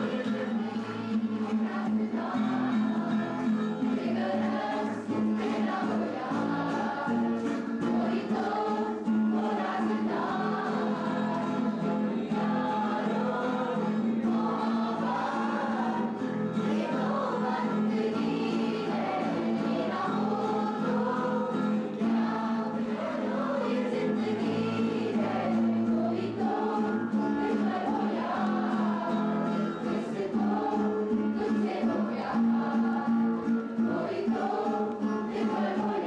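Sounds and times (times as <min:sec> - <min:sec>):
acoustic guitar: 0:00.0 - 0:36.0
group singing together: 0:00.0 - 0:36.0.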